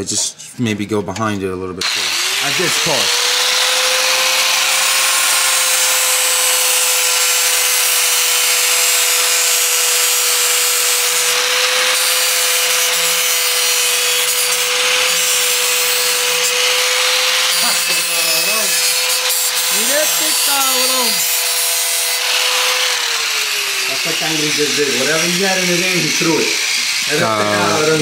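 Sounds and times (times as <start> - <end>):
angle grinder grinding metal: 1.8 - 28.0.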